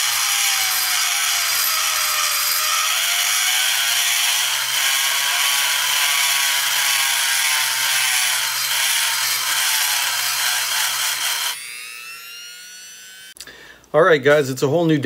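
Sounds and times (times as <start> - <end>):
rotary tool grinding metal: 0.0 - 13.4.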